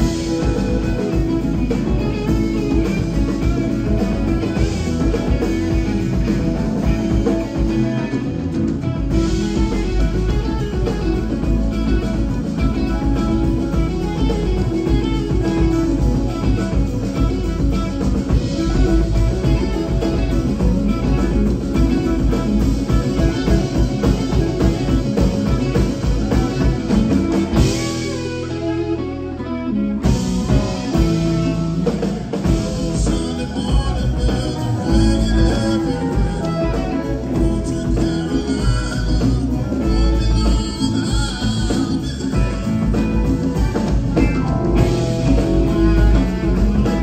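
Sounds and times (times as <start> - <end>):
congas: 0.0 - 29.1, 29.9 - 47.0
electric guitar: 0.0 - 47.0
live rock band playing: 0.0 - 47.0.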